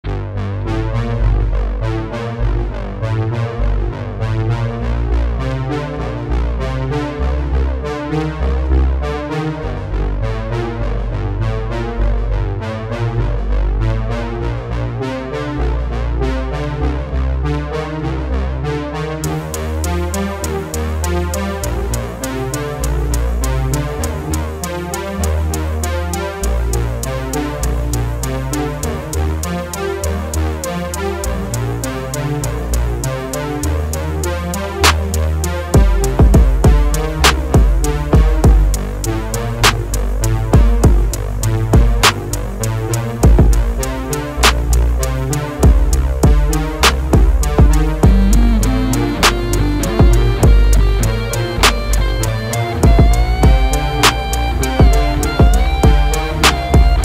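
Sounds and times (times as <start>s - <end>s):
music with deep bass and beat: 0.0s - 57.0s.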